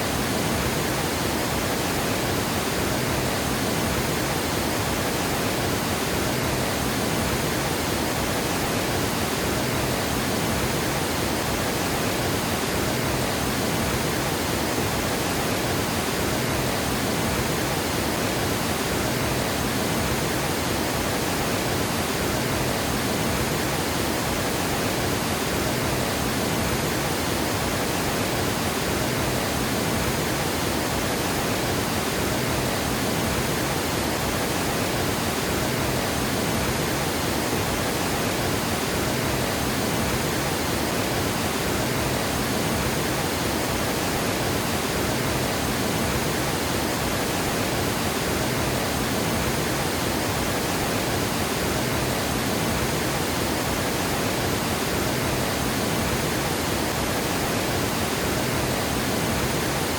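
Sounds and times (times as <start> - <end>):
water rushing over dam spillway: 0.0 - 59.9.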